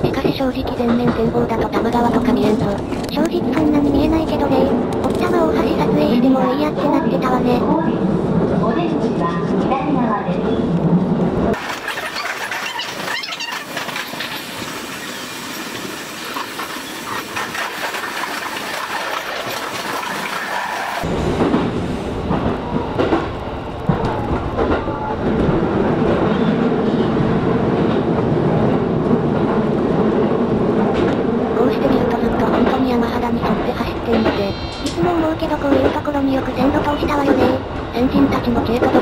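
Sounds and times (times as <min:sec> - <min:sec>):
train wheels rolling on rail: 0:00.0 - 0:39.0.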